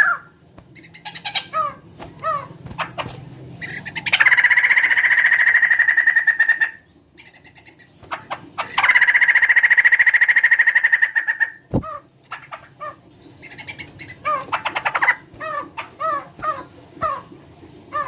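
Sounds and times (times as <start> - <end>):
laughingthrush rattling call: 0.0 - 18.0.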